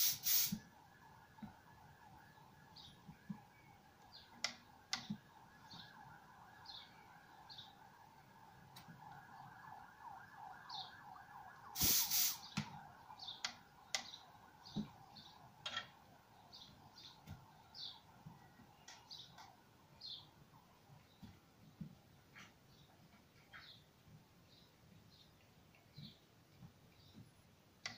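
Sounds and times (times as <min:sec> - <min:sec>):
small birds chirping: 0:01.3 - 0:27.9.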